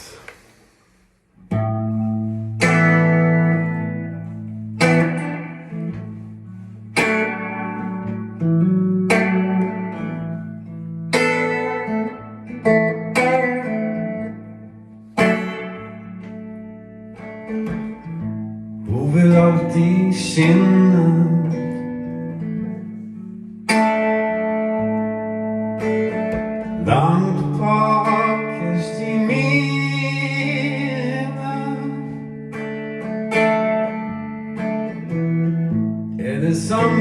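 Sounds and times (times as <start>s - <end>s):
guitar chords strummed: 0.0s - 37.0s.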